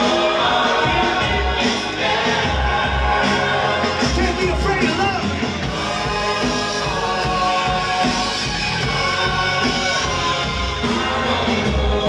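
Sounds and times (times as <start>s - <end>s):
hip-hop music with sung notes: 0.0s - 12.0s.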